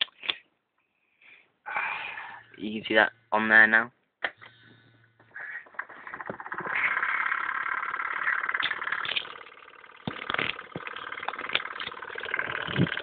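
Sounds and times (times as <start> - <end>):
electric fan buzzing rattle: 2.4 - 13.0.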